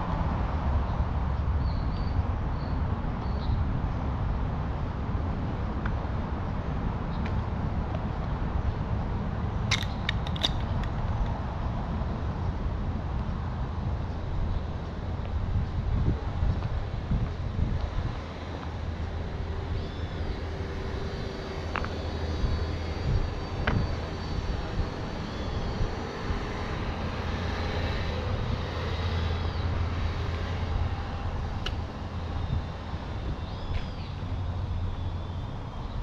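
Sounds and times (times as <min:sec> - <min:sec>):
distant engines rumbling: 0:00.0 - 0:36.0.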